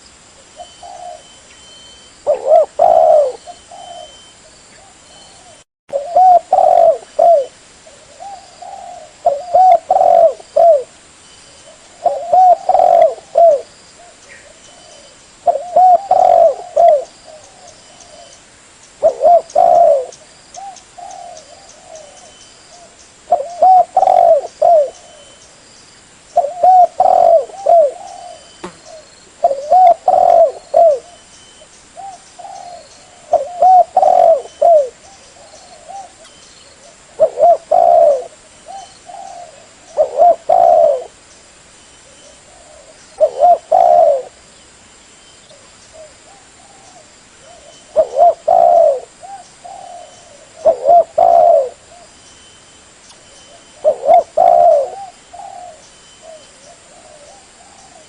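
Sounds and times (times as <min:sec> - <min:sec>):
dove cooing: 0:00.6 - 0:01.4, 0:02.2 - 0:11.0, 0:11.6 - 0:18.4, 0:19.0 - 0:25.4, 0:26.4 - 0:31.2, 0:32.0 - 0:41.2, 0:42.0 - 0:44.4, 0:45.5 - 0:52.1, 0:53.5 - 0:58.0.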